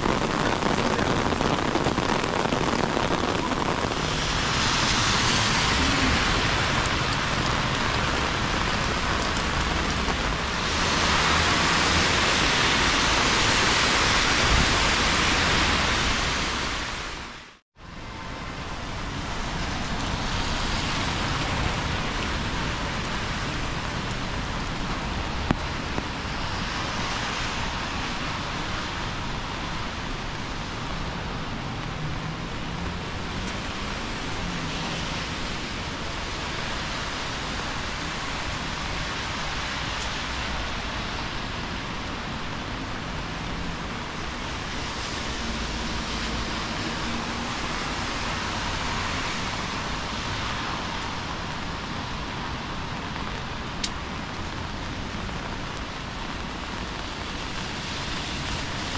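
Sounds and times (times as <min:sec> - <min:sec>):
car tyres hissing on wet road: 0:00.0 - 0:17.4, 0:18.9 - 0:58.9
heavy rain on street: 0:00.0 - 0:58.9.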